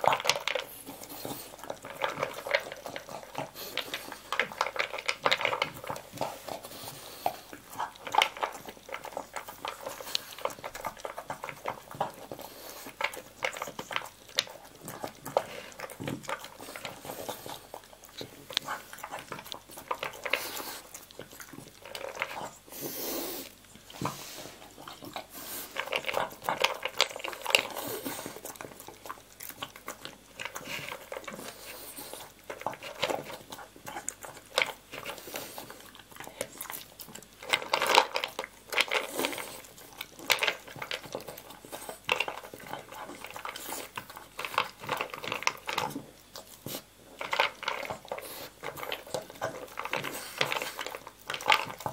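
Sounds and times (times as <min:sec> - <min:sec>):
dog crunching kibble: 0:00.0 - 0:51.9.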